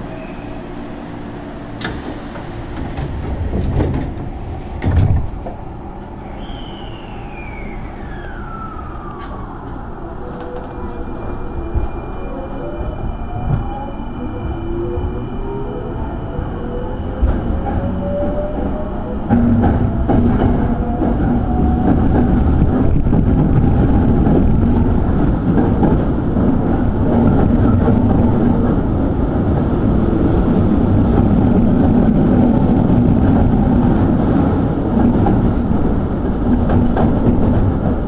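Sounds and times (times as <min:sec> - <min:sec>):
train wheels rumbling: 0:00.0 - 0:38.0.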